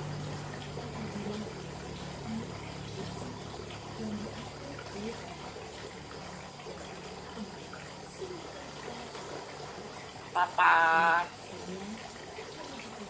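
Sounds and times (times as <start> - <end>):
low background hum and hiss: 0.0 - 13.0.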